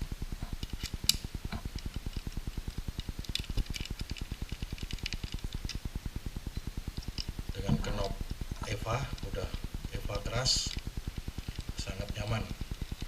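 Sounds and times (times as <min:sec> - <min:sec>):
rapid low pulsing: 0:00.0 - 0:13.0.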